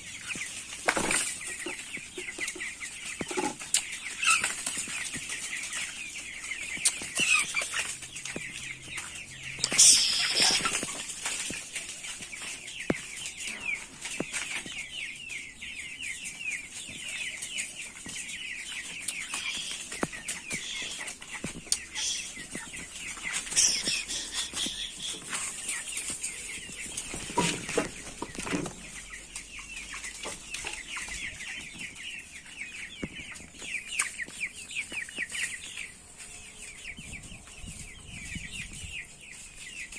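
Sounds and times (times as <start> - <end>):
chickens cheeping and clucking: 0.0 - 39.9.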